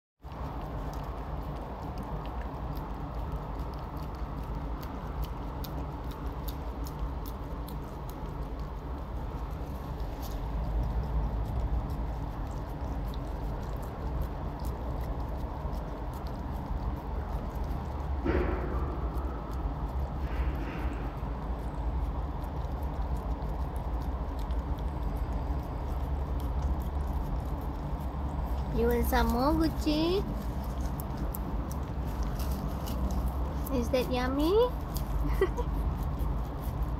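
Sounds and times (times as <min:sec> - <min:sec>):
puppy licking yogurt: 0:00.2 - 0:36.9.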